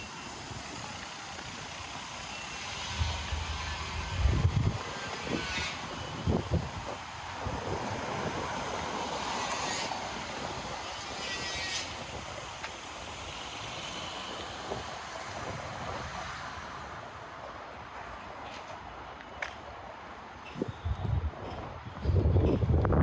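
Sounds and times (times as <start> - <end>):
city street traffic noise: 0.0 - 23.0.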